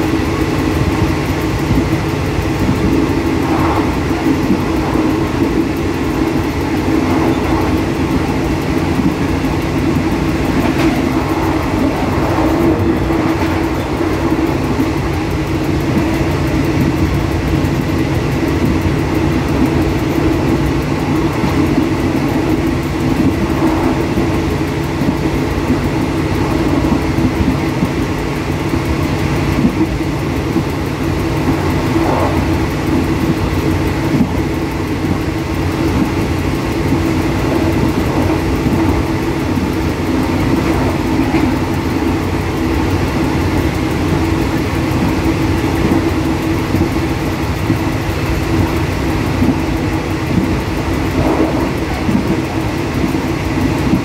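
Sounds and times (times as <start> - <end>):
steady low hum: 0.0 - 54.0
train engine running: 0.0 - 54.0
train wheels on rails: 0.0 - 54.0.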